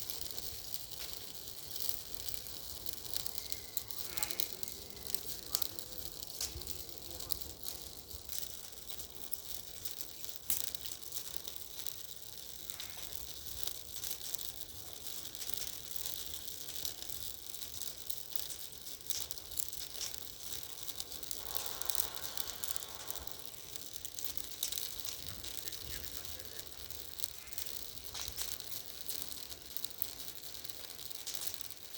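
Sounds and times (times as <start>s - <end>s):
bonfire crackling and popping: 0.0s - 31.9s.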